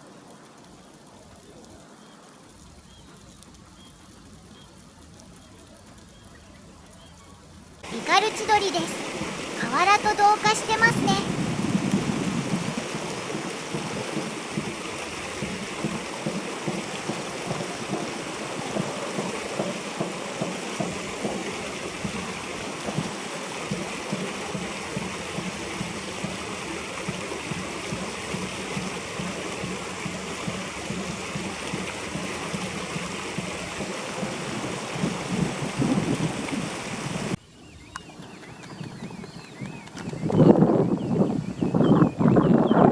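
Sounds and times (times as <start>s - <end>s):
river water flowing over gravel: 0.0s - 42.7s.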